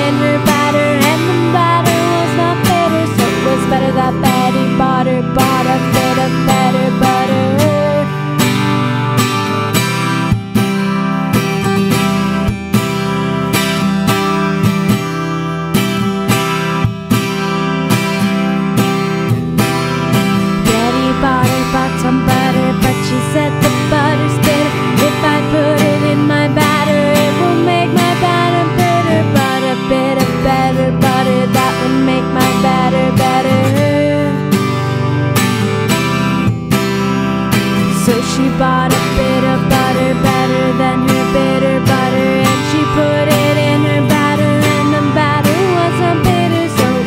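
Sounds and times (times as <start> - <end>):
woman singing: 0.0 - 15.2, 20.1 - 35.3, 37.6 - 47.0
acoustic guitar strumming: 0.0 - 47.0.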